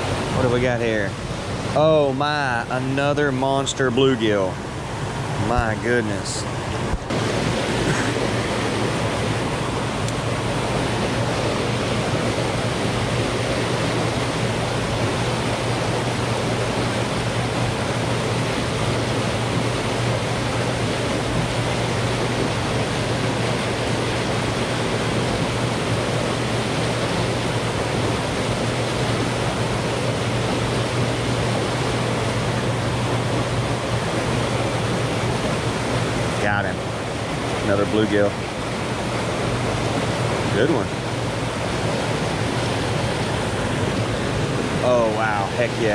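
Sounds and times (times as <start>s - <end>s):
water rushing along dam wall: 0.0s - 45.9s.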